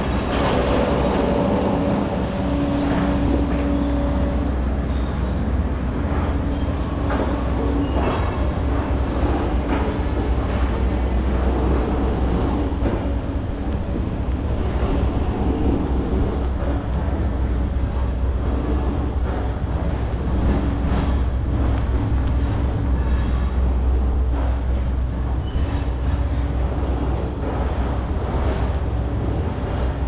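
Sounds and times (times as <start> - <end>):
city traffic rumble: 0.0 - 30.0.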